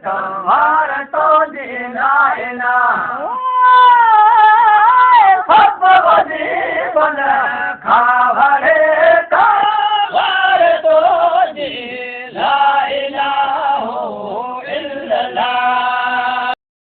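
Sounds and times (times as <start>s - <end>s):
man chanting devotional song: 0.0s - 16.6s.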